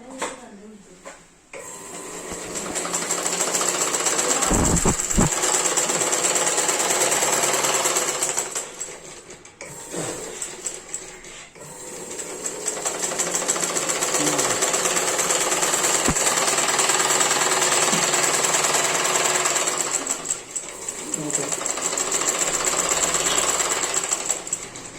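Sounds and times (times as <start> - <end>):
sewing machine clattering: 2.4 - 9.5, 11.8 - 24.9.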